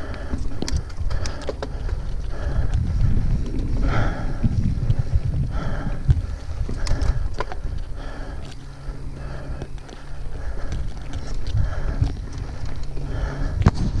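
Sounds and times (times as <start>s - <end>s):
bike rattling: 0.0s - 14.0s
wind rumbling on microphone: 0.0s - 14.0s.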